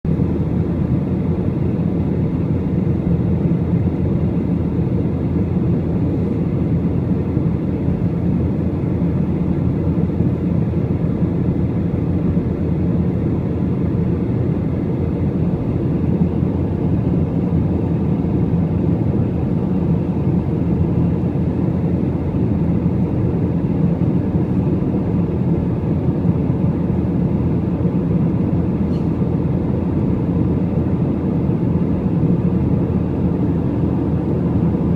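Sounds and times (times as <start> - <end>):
airliner cabin engine drone: 0.1 - 34.9.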